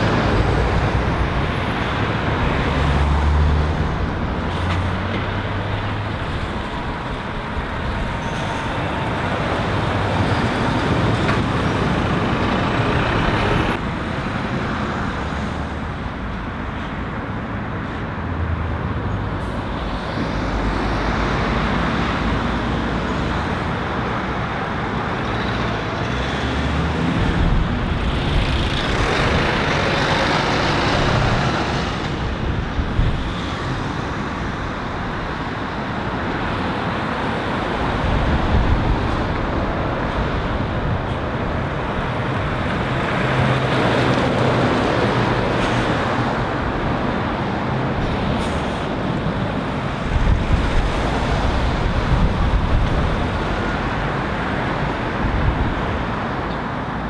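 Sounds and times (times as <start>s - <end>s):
cars and vans passing: 0.0s - 57.0s
lorry diesel engine: 0.0s - 57.0s.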